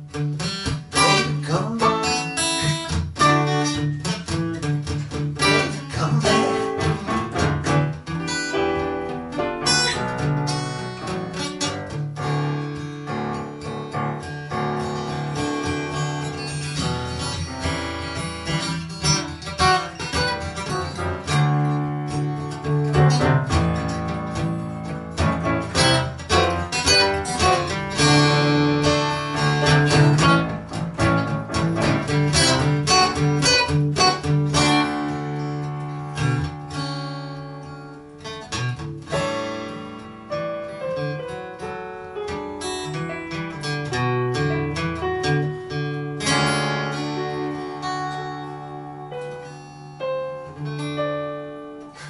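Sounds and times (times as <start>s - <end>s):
acoustic guitar: 0.0s - 52.0s
digital piano: 0.0s - 52.0s.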